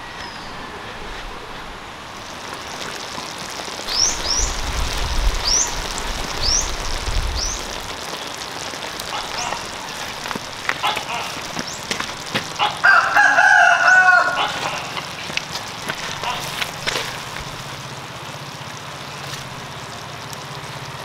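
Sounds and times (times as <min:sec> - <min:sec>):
shrimp sizzling in butter sauce: 0:02.2 - 0:21.0.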